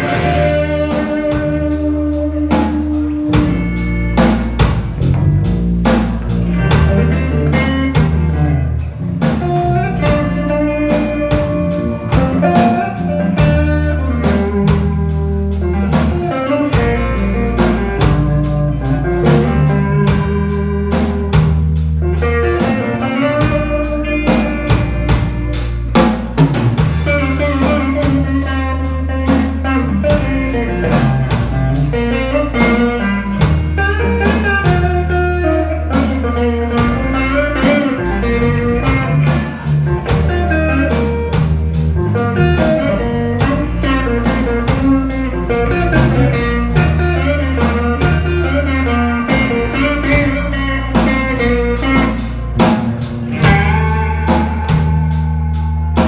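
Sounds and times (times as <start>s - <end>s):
bass line: 0.0s - 56.0s
electric guitar lines: 0.0s - 56.0s.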